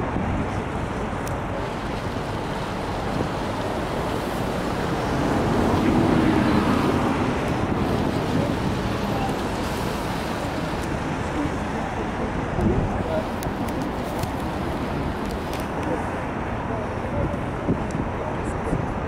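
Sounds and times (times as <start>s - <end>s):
river rushing: 0.0s - 16.7s
traffic: 0.0s - 19.0s
wind on microphone: 0.0s - 19.0s.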